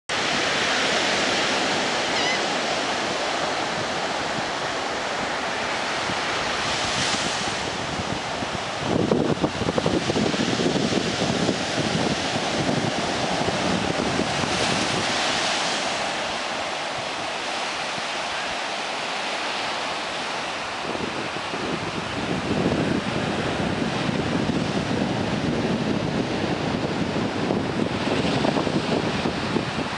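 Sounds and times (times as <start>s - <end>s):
surf breaking on beach: 0.1s - 29.9s
wind rumbling on microphone: 0.1s - 29.9s.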